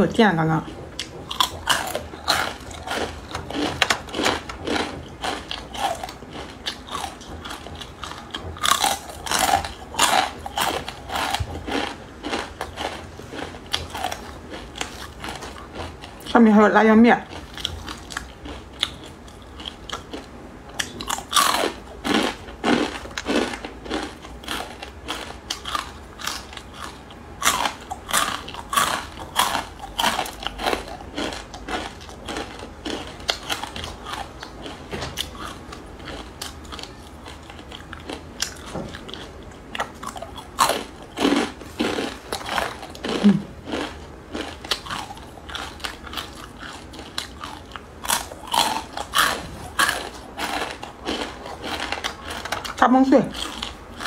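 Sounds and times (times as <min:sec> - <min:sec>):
quiet chewing: 0:00.6 - 0:16.3, 0:17.2 - 0:54.0
crunching crisp noodles: 0:01.0 - 0:16.3, 0:17.3 - 0:54.0.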